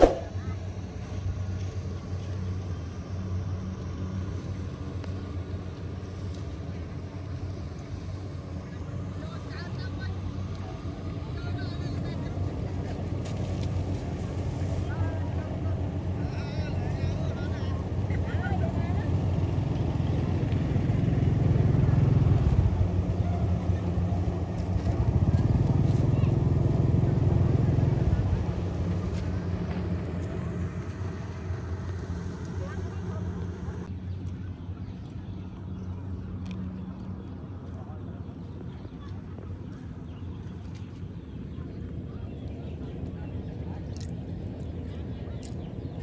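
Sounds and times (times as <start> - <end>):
engine low pulsing drone: 0.0 - 46.0.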